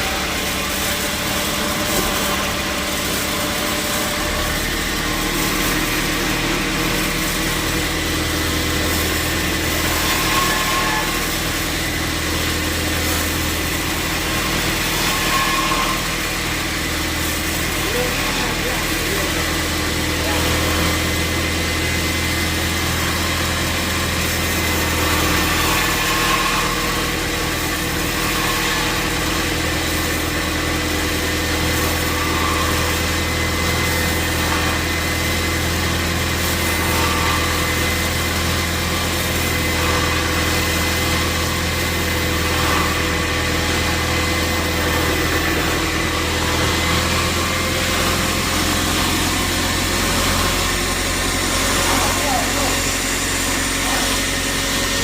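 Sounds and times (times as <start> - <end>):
sawmill motor drone: 0.0 - 55.0.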